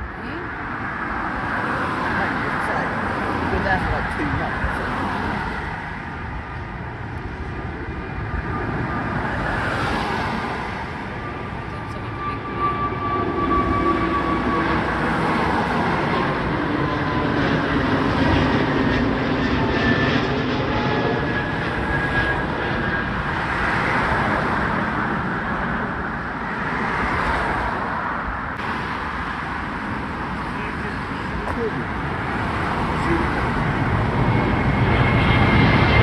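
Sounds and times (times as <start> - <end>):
jet engine roar at takeoff: 0.0 - 36.0.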